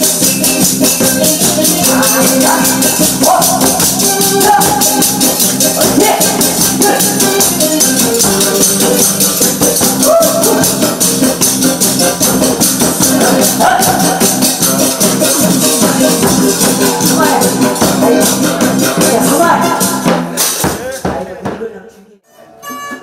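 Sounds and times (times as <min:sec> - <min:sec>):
loud backing music: 0:00.0 - 0:21.7.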